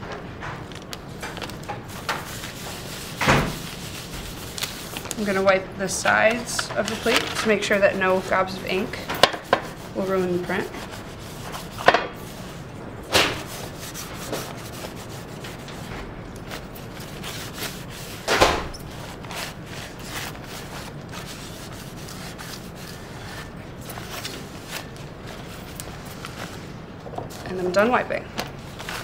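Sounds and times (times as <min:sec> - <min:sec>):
paper towel rubbing metal plate: 0:01.9 - 0:26.7.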